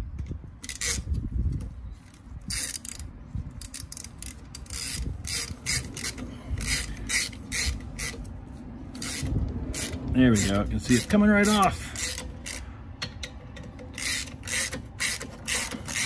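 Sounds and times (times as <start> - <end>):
ratchet wrench clicking: 0.6 - 1.1, 2.5 - 16.0.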